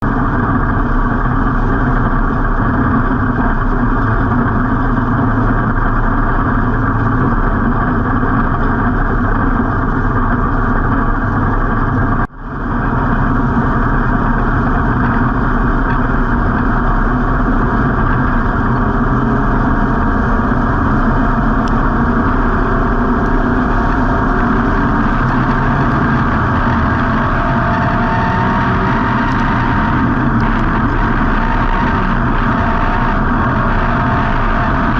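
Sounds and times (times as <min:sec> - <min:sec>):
race car engine running: 0:00.0 - 0:34.9.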